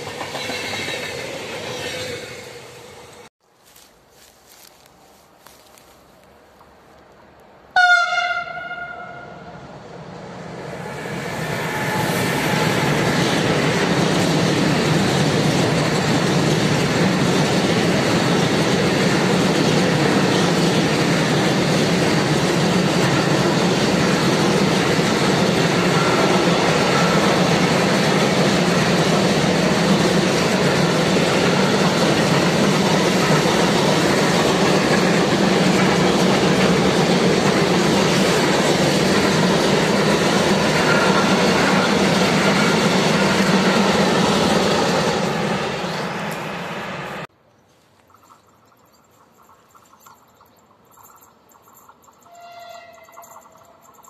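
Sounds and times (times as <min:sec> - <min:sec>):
freight train rolling past: 0:00.0 - 0:05.9, 0:07.7 - 0:47.3, 0:48.1 - 0:54.0.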